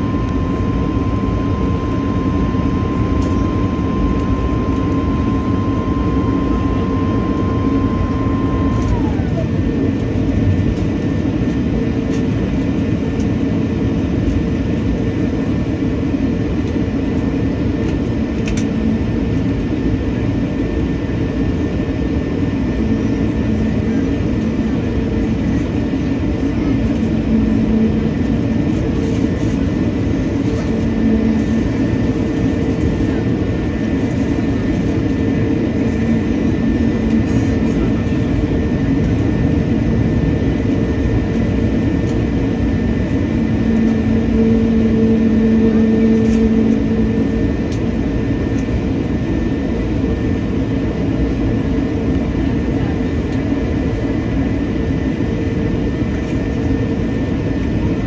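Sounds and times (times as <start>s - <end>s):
jet engines humming: 0.0s - 58.0s
thin steady whine: 0.0s - 58.0s.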